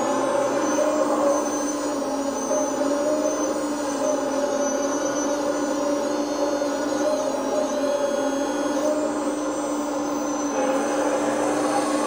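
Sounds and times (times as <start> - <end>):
high whine shifting in pitch: 0.0 - 12.0.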